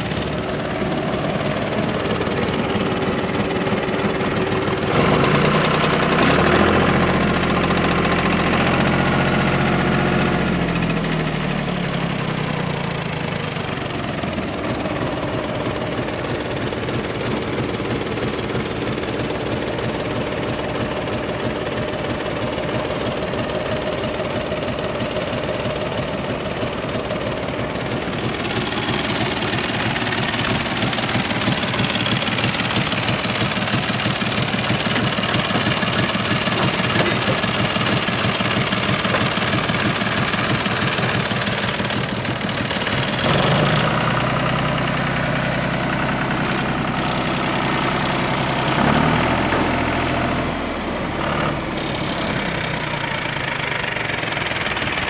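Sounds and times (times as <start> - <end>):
diesel tractor engine idling: 0.0 - 55.0.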